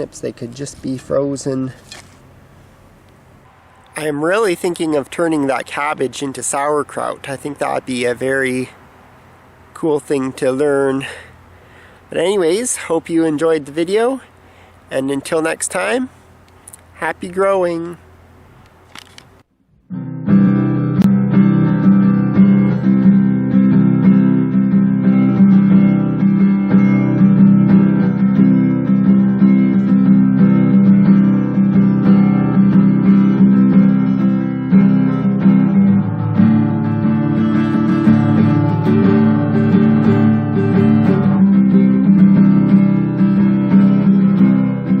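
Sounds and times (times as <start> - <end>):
strummed acoustic guitar music: 0.0 - 14.7, 19.9 - 45.0.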